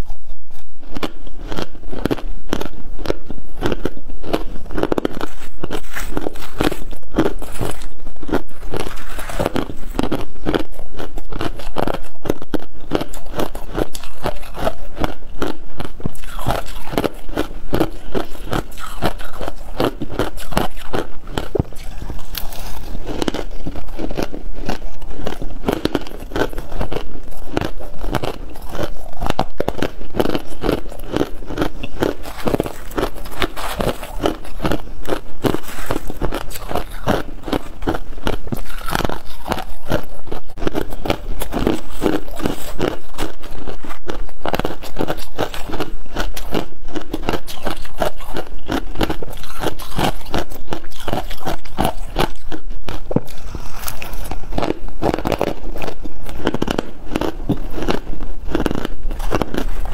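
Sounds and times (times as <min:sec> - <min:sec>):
frost being bitten and chewed: 0:00.0 - 0:59.9.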